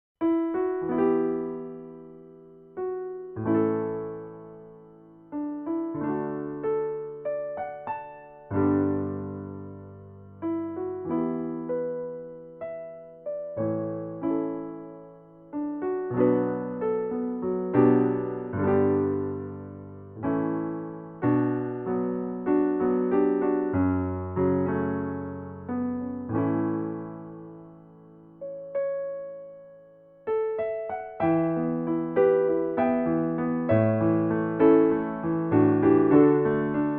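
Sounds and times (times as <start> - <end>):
solo piano chords: 0.2 - 36.9.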